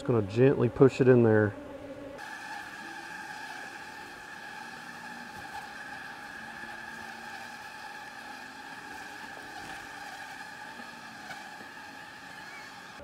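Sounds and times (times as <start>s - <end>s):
bees buzzing: 0.0s - 13.0s
single bee buzzing: 0.1s - 13.0s.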